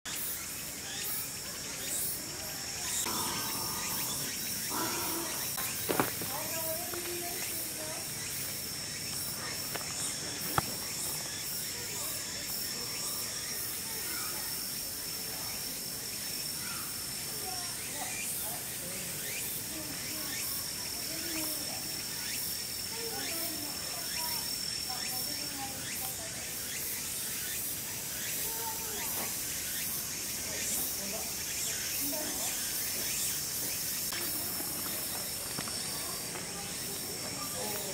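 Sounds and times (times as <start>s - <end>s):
insects chirring: 0.1s - 37.9s.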